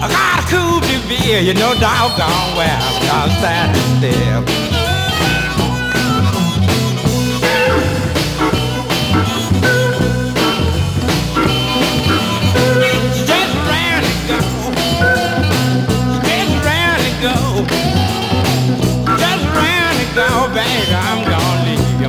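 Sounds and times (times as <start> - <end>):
blues band record playing: 0.0 - 22.0.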